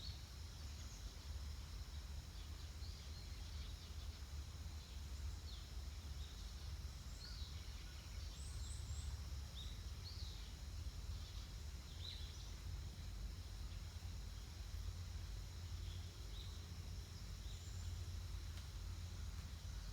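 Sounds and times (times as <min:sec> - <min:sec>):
high insect drone: 0:00.0 - 0:19.9.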